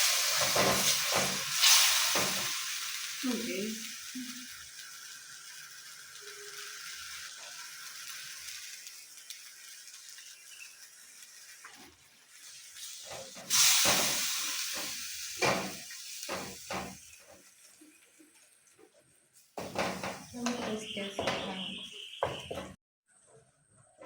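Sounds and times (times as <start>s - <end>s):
sauce sizzling in a pan: 0.0s - 22.2s.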